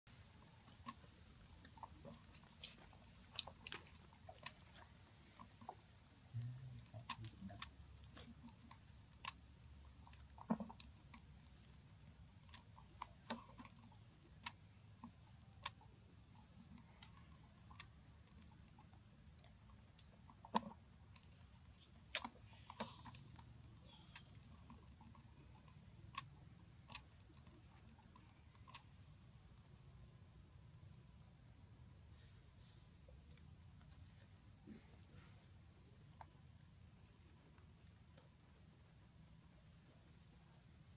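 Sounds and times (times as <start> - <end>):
insects droning: 0.1 - 40.9.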